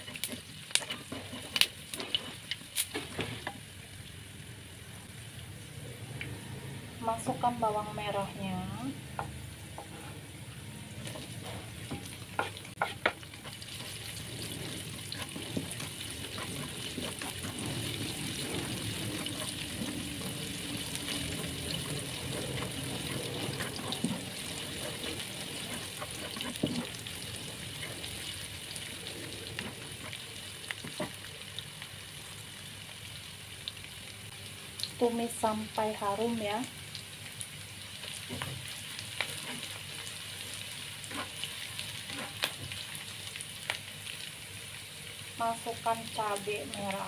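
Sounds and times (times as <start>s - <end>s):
shallots and garlic sizzling: 0.0s - 47.0s.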